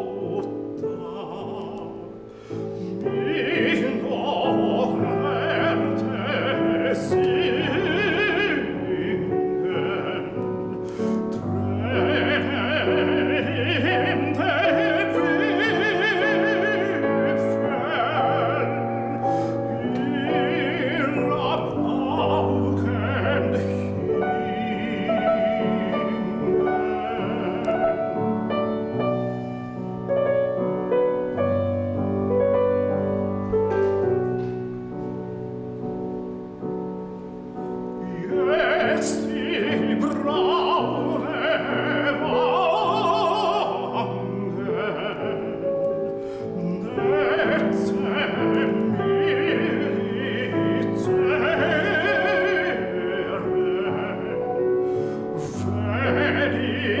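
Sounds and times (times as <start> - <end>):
tenor singing operatically: 0.0 - 29.4, 38.0 - 57.0
grand piano accompaniment: 0.0 - 57.0.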